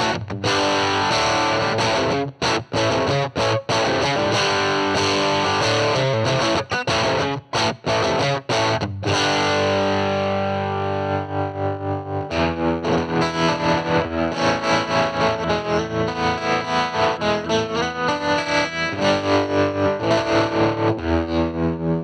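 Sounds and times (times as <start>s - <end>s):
fuzzy electric guitar: 0.0s - 22.0s.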